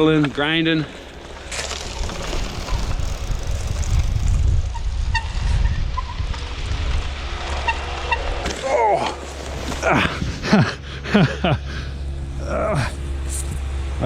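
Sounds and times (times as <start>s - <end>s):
bicycle riding through snow: 0.0s - 14.0s
bike creaking: 0.0s - 14.0s.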